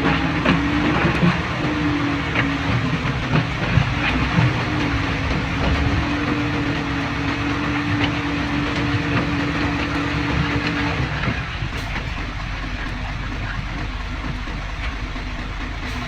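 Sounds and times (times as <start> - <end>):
diesel machinery rumble: 0.0 - 16.0
droning tone: 0.0 - 16.0.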